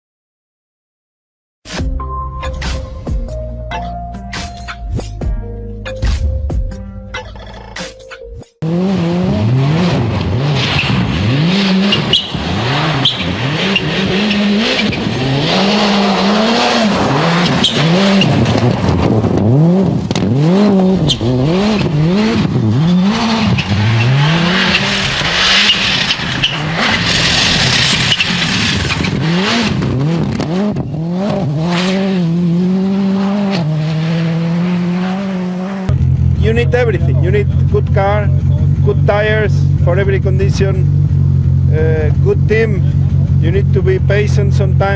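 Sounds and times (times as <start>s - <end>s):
rally car engine revving: 8.6s - 44.9s.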